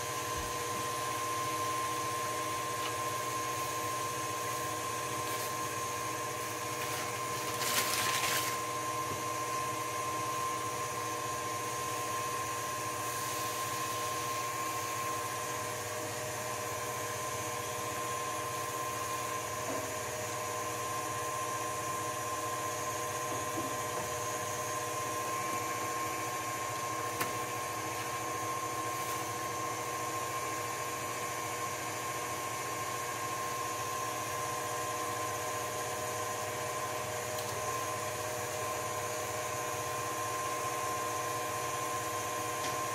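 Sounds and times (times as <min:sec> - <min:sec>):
stand mixer motor whining: 0:00.0 - 0:42.9.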